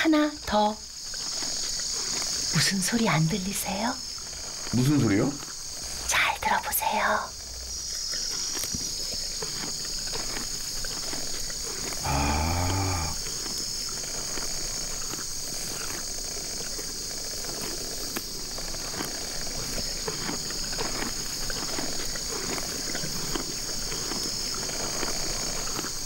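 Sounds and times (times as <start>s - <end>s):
insects chirring: 0.0s - 26.0s
pony tearing and chewing grass: 0.8s - 6.1s, 7.4s - 26.0s.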